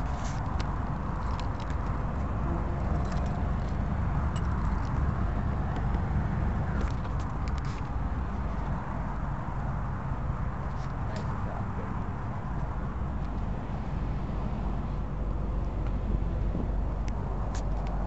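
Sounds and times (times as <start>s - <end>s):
vehicle engines rumbling: 0.0s - 18.0s.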